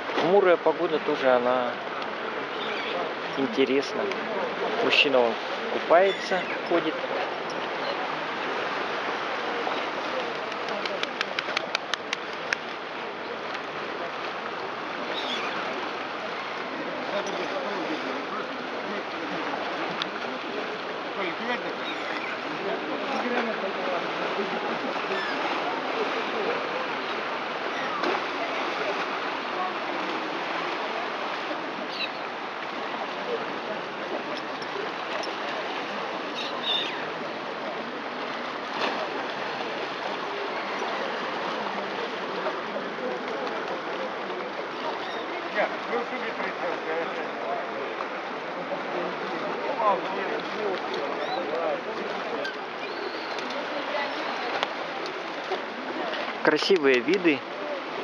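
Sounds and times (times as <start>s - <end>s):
waves lapping against stone: 0.0s - 58.0s.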